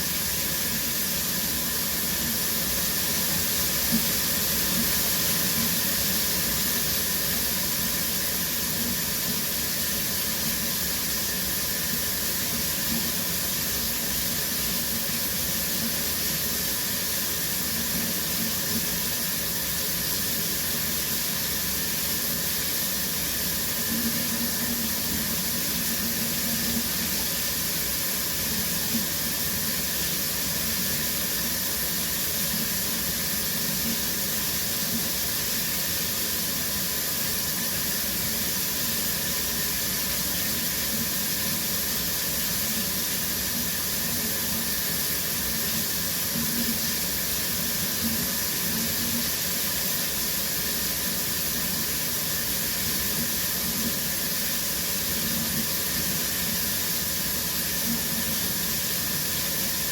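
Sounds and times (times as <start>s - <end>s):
shower water spraying: 0.0s - 59.9s.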